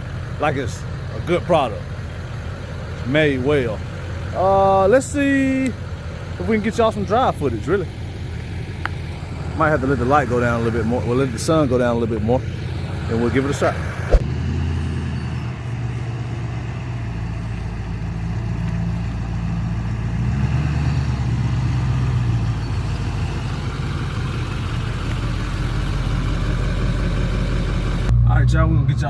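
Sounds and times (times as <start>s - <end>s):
pickup truck engine driving: 0.0s - 29.0s.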